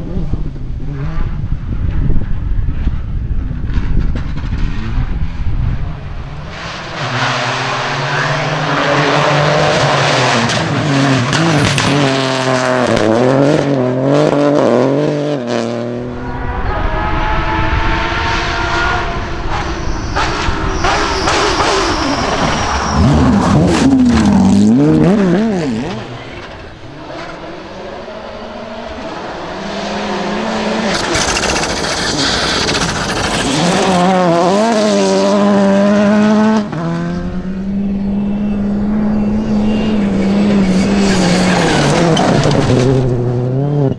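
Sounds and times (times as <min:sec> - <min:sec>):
rally cars revving past: 0:06.4 - 0:43.9.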